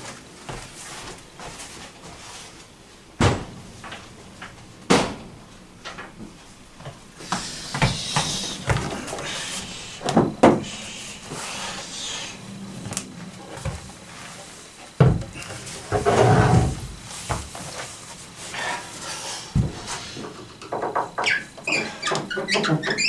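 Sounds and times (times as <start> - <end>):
wood rubbing and sliding: 0.6 - 23.0.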